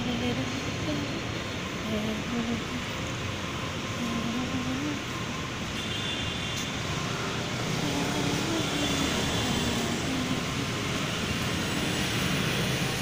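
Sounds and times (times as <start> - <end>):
engines idling: 0.0 - 5.8, 6.6 - 13.0
cars passing: 0.0 - 13.0.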